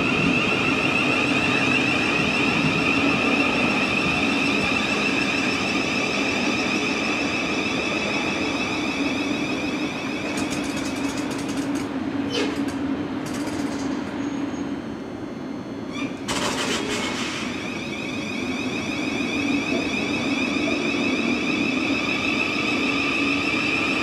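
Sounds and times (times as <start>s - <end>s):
electric train high whine: 0.0s - 24.0s
wheels rumbling on rail: 0.0s - 24.0s.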